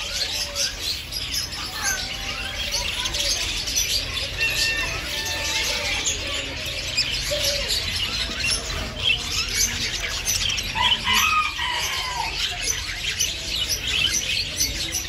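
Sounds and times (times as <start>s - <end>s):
caged birds chirping and chattering: 0.0s - 15.0s.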